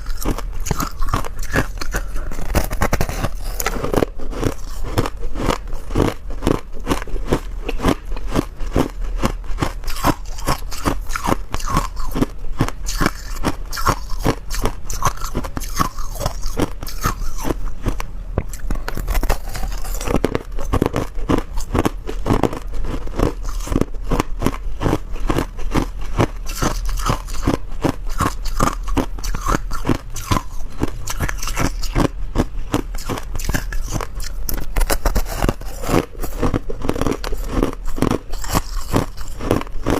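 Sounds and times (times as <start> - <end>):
person chewing ice crunches: 0.0 - 39.9.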